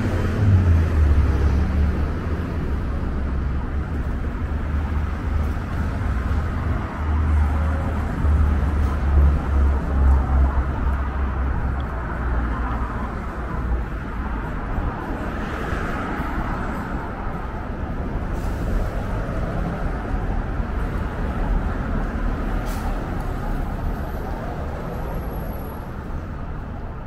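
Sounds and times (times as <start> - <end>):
traffic passing: 0.0 - 27.0.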